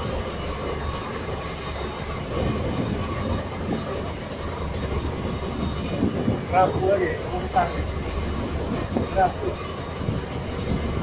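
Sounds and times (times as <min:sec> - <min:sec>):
boat engine rumbling: 0:00.0 - 0:11.0
wind: 0:00.0 - 0:11.0.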